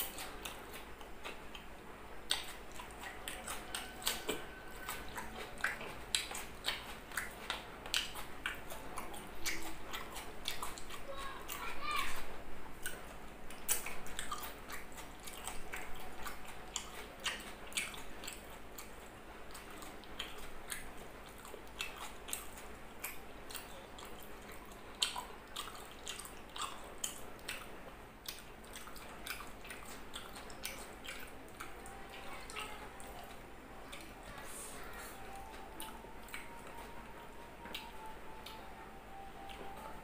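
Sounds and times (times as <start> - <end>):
close-up chewing with mouth clicks: 0.0 - 40.0.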